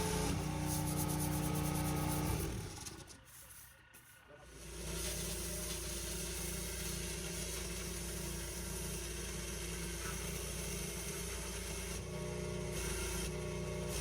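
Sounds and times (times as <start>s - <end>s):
pressure washer engine running: 0.0s - 14.0s.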